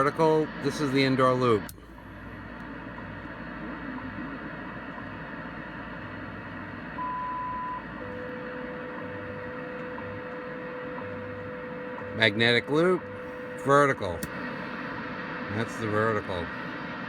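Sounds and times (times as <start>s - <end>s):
radio static hiss: 0.0s - 10.2s, 10.9s - 17.0s
lower steady tone: 0.0s - 17.0s.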